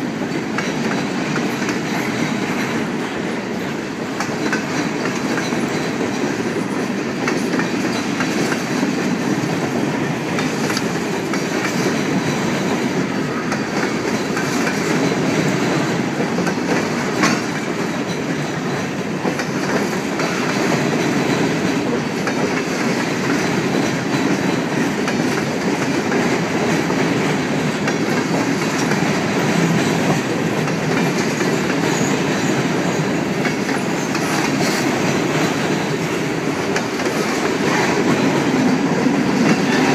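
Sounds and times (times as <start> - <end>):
freight train wheels clicking over rail joints: 0.0 - 39.9.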